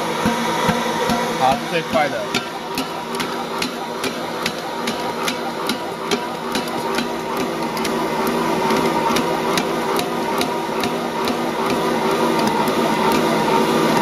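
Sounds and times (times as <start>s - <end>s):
mixer motor humming: 0.0s - 14.0s
dough knocking against bowl: 0.2s - 13.3s.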